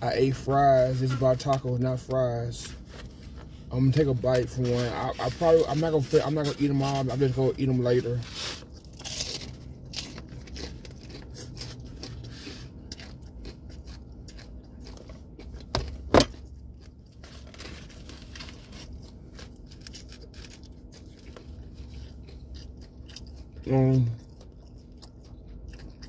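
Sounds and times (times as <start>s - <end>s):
crunching crispy taco shell: 3.0s - 26.0s.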